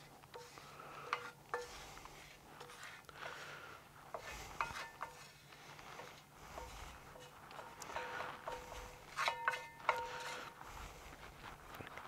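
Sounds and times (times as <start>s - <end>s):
wooden spatula scraping metal pan: 0.0s - 3.5s, 4.1s - 10.8s.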